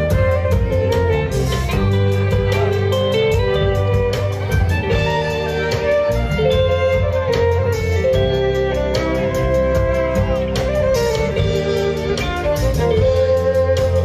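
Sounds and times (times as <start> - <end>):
bass guitar: 0.0 - 14.0
drum kit beat: 0.0 - 14.0
electric guitar: 0.0 - 14.0
fiddle: 0.0 - 14.0.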